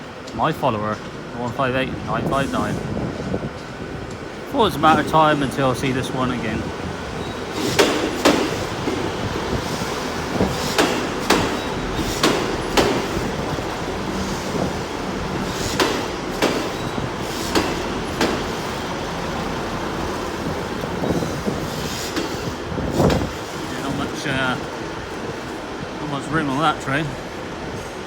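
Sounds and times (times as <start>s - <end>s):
train engine humming: 0.0s - 28.0s
train wheels clacking over rail joints: 3.2s - 25.7s.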